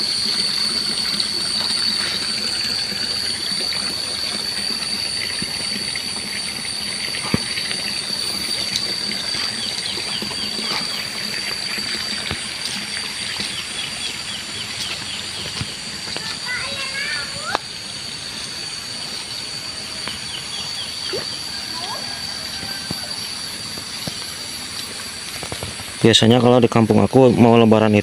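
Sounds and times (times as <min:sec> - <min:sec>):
high-pitched insect drone: 0:00.0 - 0:28.0
trickling water: 0:00.0 - 0:28.0.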